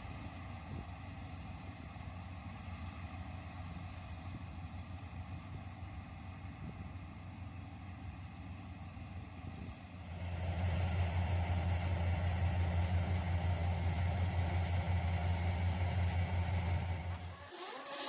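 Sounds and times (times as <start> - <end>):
harvester engine humming: 0.0 - 18.0.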